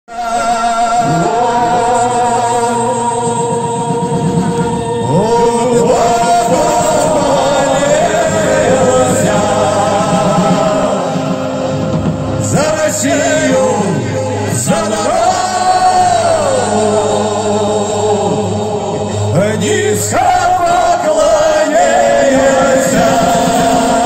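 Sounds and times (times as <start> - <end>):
men singing long notes: 0.0 - 24.0
drums: 0.1 - 24.0.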